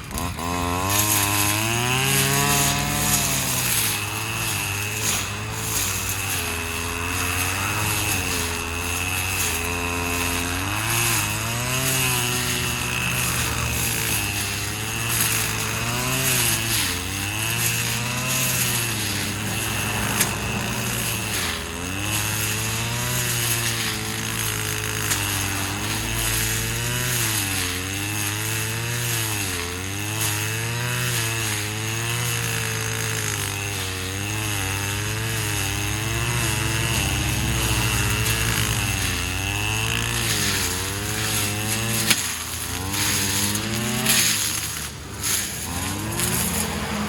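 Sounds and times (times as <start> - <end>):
brush cutter cutting grass: 0.0 - 47.0.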